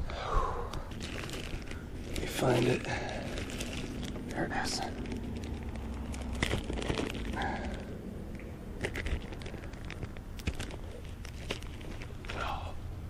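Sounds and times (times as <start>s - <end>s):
plastic bag crinkling: 0.8s - 13.0s.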